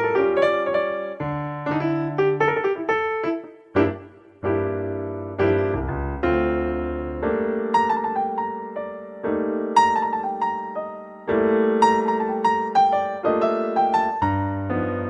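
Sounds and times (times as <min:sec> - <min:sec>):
slow calm piano music: 0:00.0 - 0:15.0.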